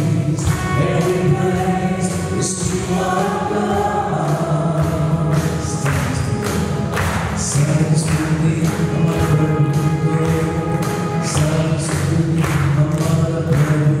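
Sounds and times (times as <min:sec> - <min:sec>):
man and woman singing: 0:00.0 - 0:06.8, 0:07.4 - 0:14.0.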